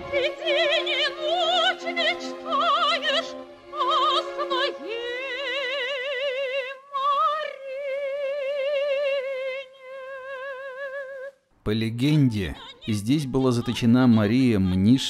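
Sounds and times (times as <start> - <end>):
operatic singing with vibrato: 0.0 - 15.0.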